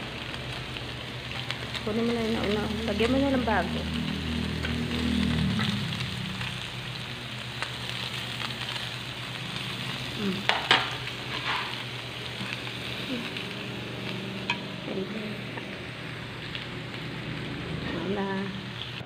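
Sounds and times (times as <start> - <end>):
pork sizzling on grill pan: 0.0 - 19.0.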